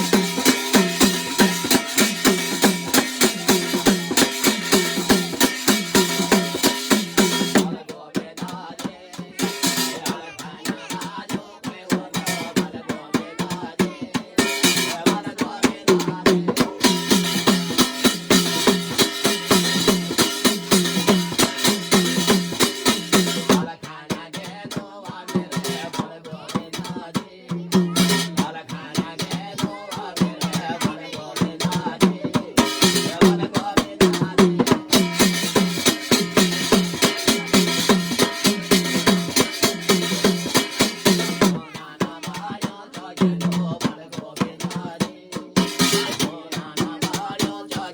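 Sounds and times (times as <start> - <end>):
fast dense drumming: 0.0 - 47.9.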